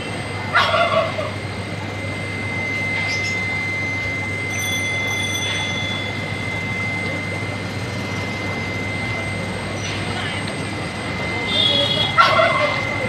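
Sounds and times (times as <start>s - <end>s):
high-pitched whine: 0.0s - 13.0s
low hum: 0.0s - 13.0s.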